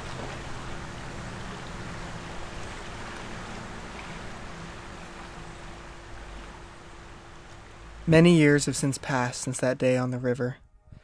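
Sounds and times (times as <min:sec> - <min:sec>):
flowing river water: 0:00.0 - 0:09.9
constant low hum: 0:00.0 - 0:11.0.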